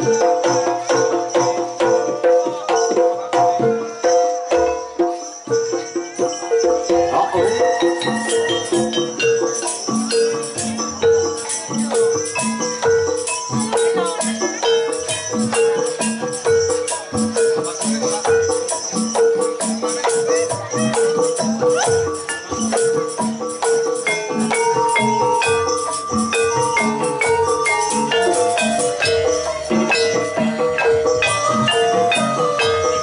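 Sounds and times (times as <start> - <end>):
drum and percussion strikes: 0.0 - 33.0
gamelan ensemble music: 0.0 - 33.0.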